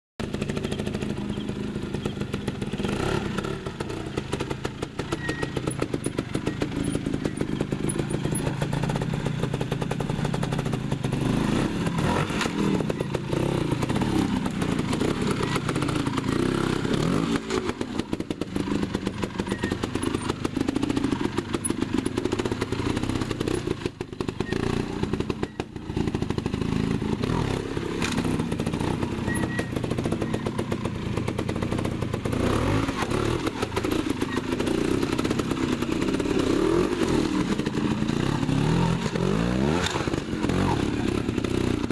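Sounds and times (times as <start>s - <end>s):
motorcycle engine revving: 0.2s - 41.9s.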